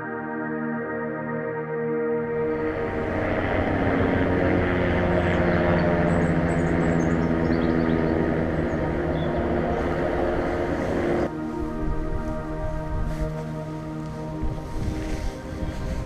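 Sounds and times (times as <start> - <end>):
propeller aircraft flying overhead: 0.0 - 16.0.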